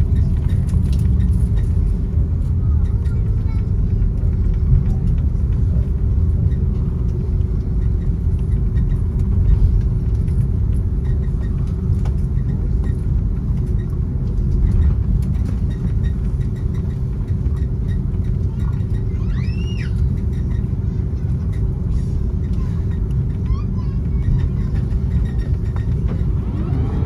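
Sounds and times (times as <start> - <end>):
aircraft cabin rumble: 0.0 - 27.0.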